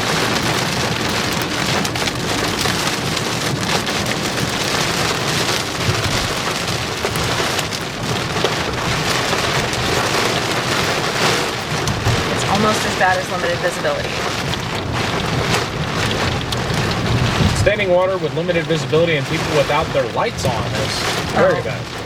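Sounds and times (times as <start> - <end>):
heavy rain on vehicle roof: 0.0 - 22.0.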